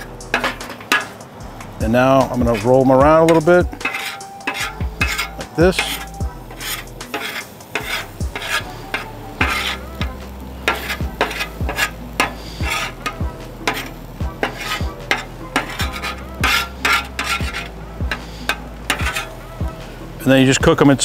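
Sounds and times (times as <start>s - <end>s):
metal spatula scraping griddle: 0.0s - 20.6s
eggs sizzling: 0.0s - 21.0s.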